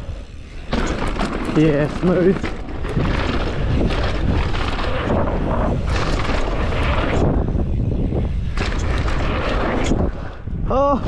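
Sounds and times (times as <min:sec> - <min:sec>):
bike rattling over bumps: 0:00.0 - 0:10.9
bike tyres rolling on dirt: 0:00.0 - 0:11.0
wind buffeting microphone: 0:00.0 - 0:11.0.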